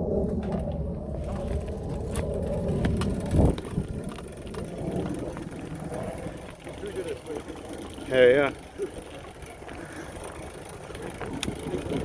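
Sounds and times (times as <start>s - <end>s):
bicycle tyres rumbling on dirt: 0.0s - 12.0s
bike clicks and rattles: 0.0s - 12.0s.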